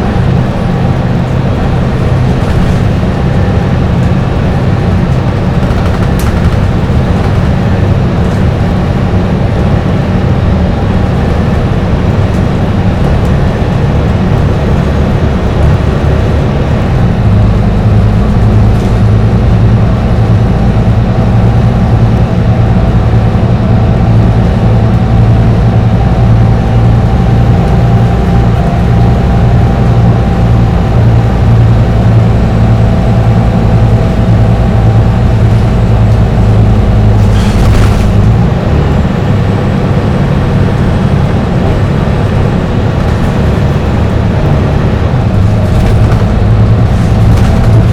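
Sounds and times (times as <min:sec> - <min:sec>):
bus diesel engine droning: 0:00.0 - 0:47.9
road noise: 0:00.0 - 0:47.9.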